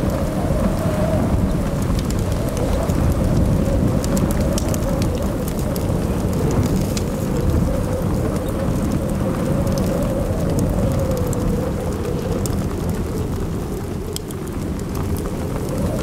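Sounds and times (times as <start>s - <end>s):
crackling fire: 0.0s - 16.0s.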